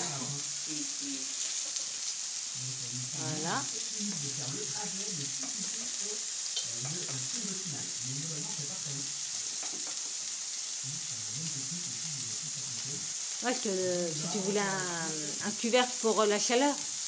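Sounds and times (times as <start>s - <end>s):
vegetables sizzling on a griddle: 0.0s - 17.0s.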